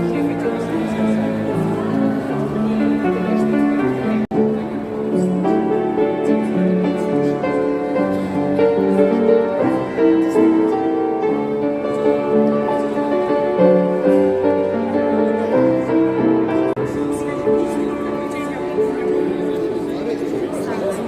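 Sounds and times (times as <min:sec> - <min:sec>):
slow piano melody with chords: 0:00.0 - 0:21.0.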